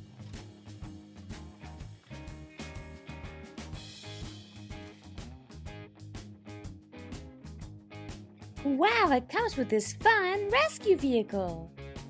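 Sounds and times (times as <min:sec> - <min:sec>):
plucked guitar-like background music: 0:00.0 - 0:12.0.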